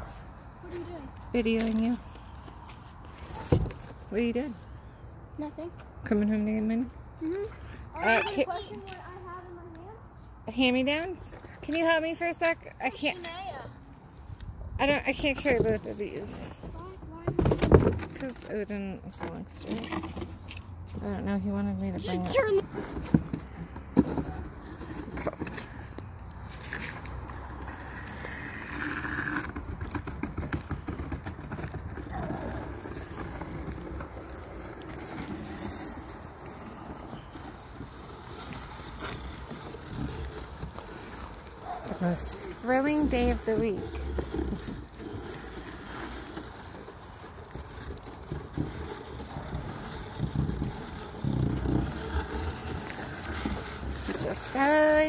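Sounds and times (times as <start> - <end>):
cardboard boxes scraping on asphalt: 0.0 - 5.5, 6.1 - 55.0.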